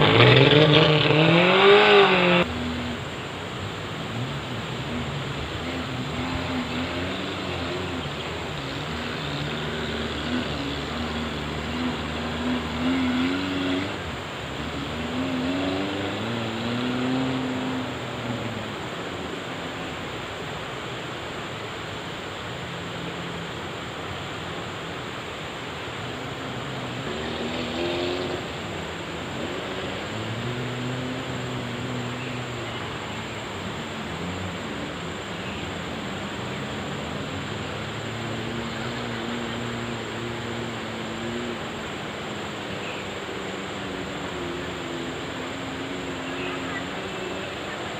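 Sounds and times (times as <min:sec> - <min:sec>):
engine revving: 0:00.0 - 0:47.9
steady rushing noise: 0:00.0 - 0:47.9.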